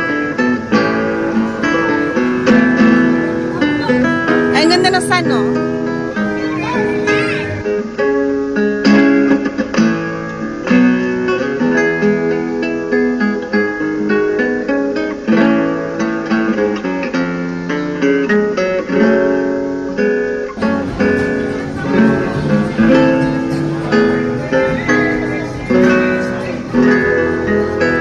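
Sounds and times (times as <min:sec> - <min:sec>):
guitar melody: 0:00.0 - 0:28.0.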